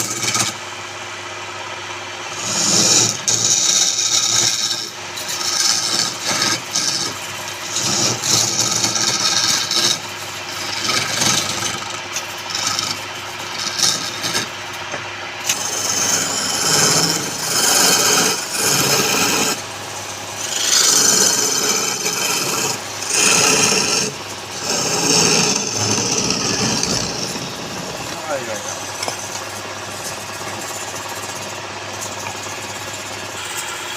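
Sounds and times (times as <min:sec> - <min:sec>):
wood scraping on a lathe: 0:00.0 - 0:00.6, 0:02.3 - 0:33.9.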